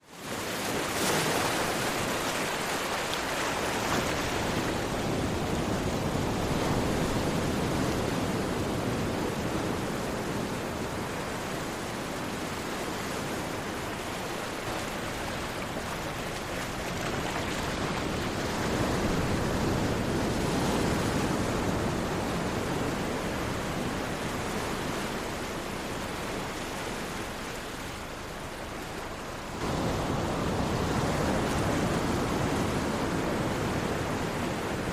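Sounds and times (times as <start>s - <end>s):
ocean waves washing ashore: 0.0s - 34.9s.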